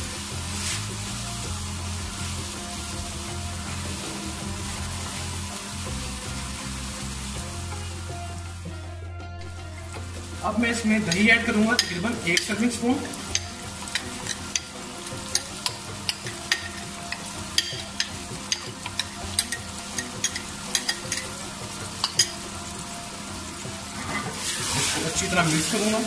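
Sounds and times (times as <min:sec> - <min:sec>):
vegetables sizzling in a pan: 0:00.0 - 0:08.8, 0:09.5 - 0:26.0.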